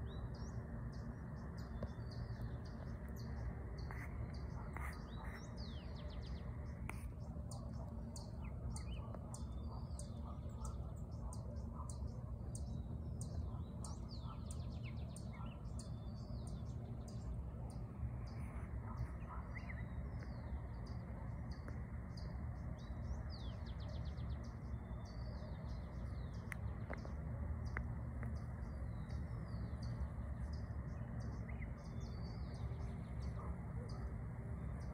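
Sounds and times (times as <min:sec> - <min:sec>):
low background rumble: 0:00.0 - 0:34.9
small birds chirping: 0:00.0 - 0:34.9.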